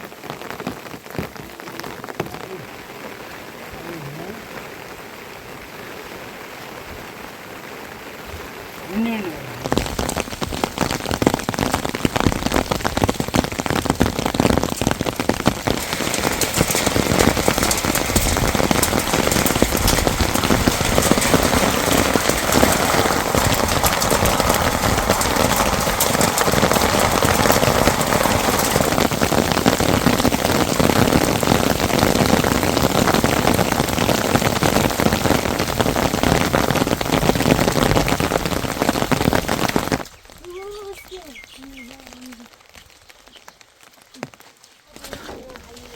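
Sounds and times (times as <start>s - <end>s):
heavy rain on hard surface: 0.0s - 45.9s.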